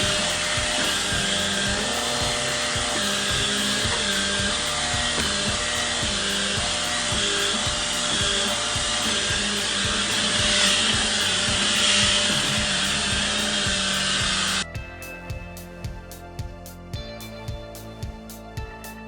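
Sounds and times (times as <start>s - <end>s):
background music with a beat: 0.0s - 19.0s.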